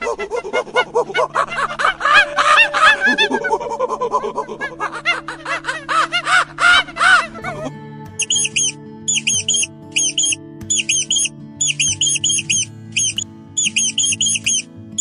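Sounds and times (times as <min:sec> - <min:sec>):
monkeys chattering: 0:00.0 - 0:14.6.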